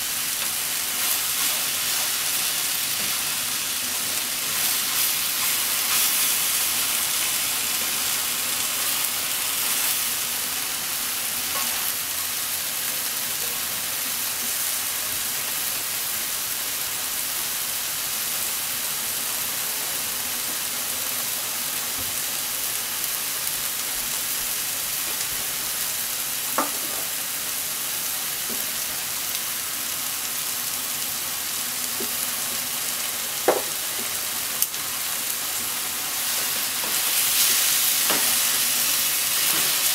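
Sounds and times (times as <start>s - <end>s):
vegetables sizzling in a frying pan: 0.0s - 39.9s.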